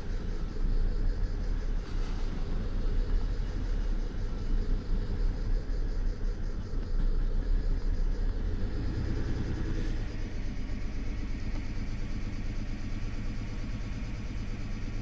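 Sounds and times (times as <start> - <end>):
car engine idling roughly: 0.0 - 15.0.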